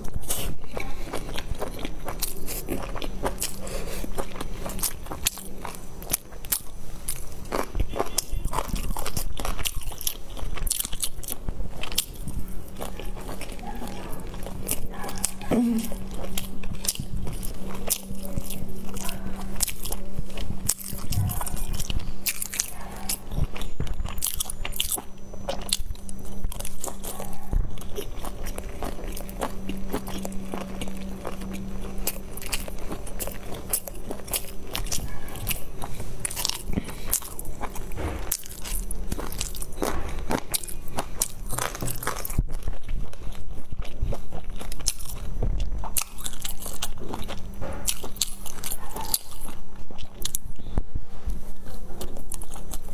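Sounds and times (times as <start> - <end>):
low hum: 0.0 - 52.9
person chewing dumplings: 0.0 - 52.9.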